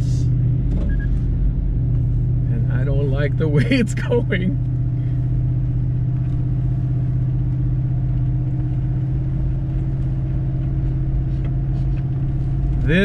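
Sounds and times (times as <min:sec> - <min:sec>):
car engine low drone: 0:00.0 - 0:13.0
road rumble: 0:00.0 - 0:13.0.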